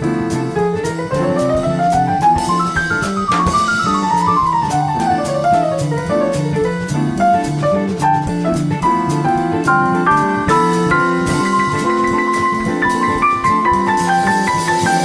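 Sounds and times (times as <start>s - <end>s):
upbeat jazzy music: 0.0s - 15.0s.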